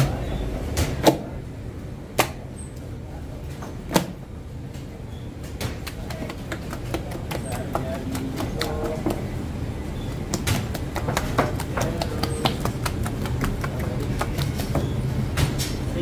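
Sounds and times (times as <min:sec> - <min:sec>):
clicks and knocks of bakery work: 0:00.0 - 0:01.4, 0:02.2 - 0:16.0
steady low hum: 0:00.0 - 0:16.0.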